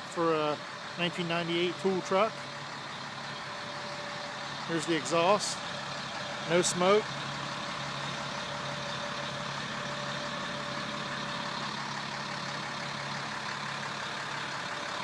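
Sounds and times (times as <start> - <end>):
diesel truck idling: 0.0 - 15.0.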